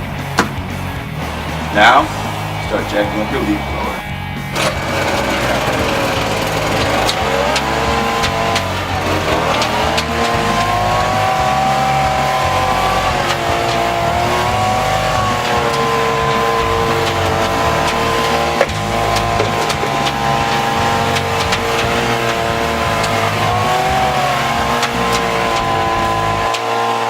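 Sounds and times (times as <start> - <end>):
leaf blower revving: 0.0 - 27.0.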